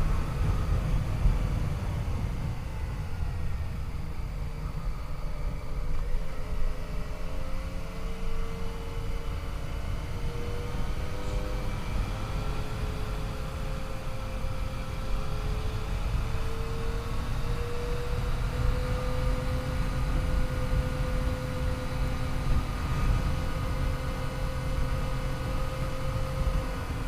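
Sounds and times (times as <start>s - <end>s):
motorcycle engine cruising: 0.0s - 27.0s
wind rumble on microphone: 0.0s - 27.0s.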